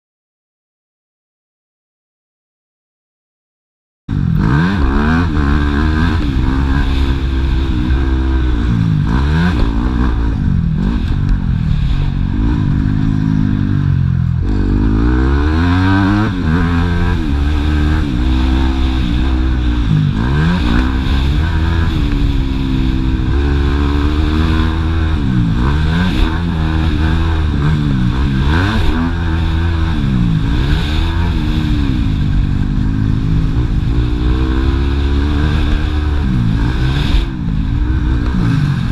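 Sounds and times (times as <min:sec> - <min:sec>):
motocross engine revving: 0:04.1 - 0:38.9.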